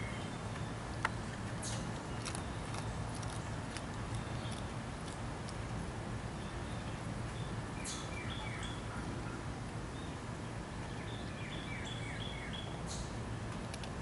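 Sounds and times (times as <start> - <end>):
songbird chirping: 0.0 - 5.7, 6.3 - 13.2
low outdoor rumble: 0.0 - 14.0.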